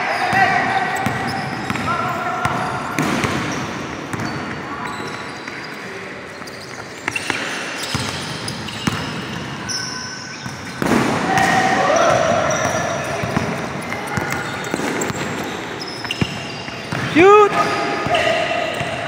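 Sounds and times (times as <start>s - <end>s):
players' voices: 0.0s - 19.0s
sneakers squeaking: 0.0s - 19.0s
basketball bouncing on court: 0.2s - 5.6s, 6.4s - 9.8s, 10.4s - 19.0s.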